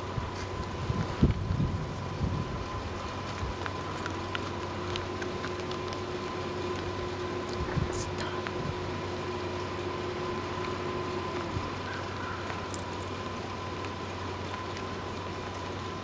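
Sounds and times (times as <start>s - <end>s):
faint high whine: 0.0s - 16.0s
vehicle idling hum: 0.0s - 16.0s.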